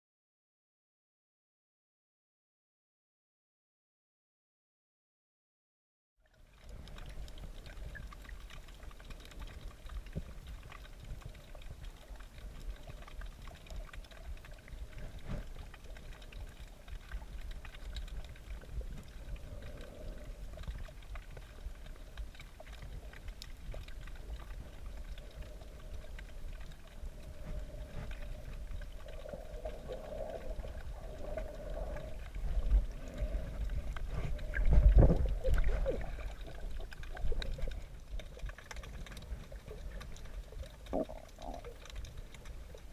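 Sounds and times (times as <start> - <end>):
muffled underwater rumble and sloshing: 6.2 - 42.9.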